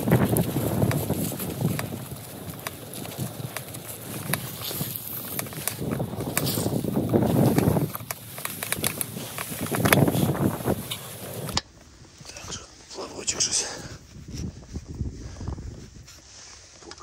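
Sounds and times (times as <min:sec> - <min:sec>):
wind buffeting microphone: 0:00.0 - 0:16.3.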